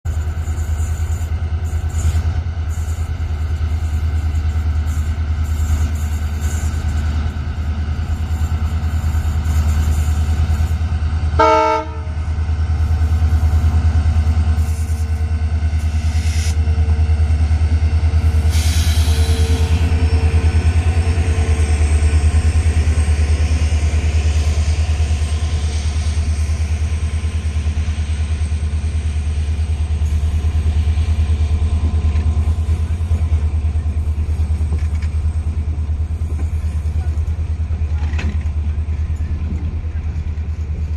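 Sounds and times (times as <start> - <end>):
diesel locomotive engine rumble: 0.0 - 40.9.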